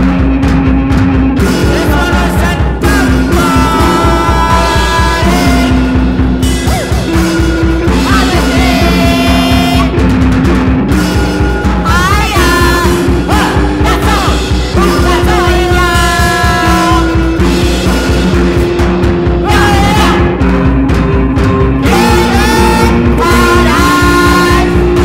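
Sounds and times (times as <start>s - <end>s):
fast drum pulse: 0.0s - 25.0s
guitars playing sliding notes: 0.0s - 25.0s.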